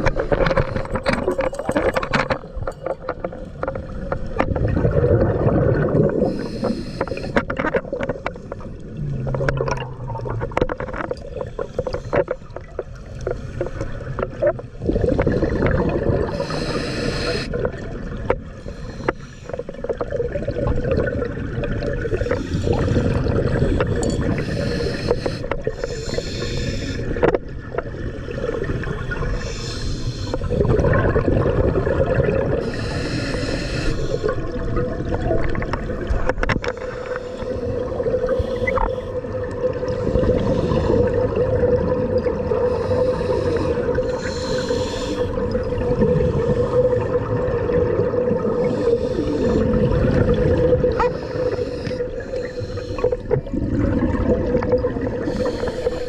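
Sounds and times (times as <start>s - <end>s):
exhaled bubbles hissing underwater: 3.5s - 56.0s.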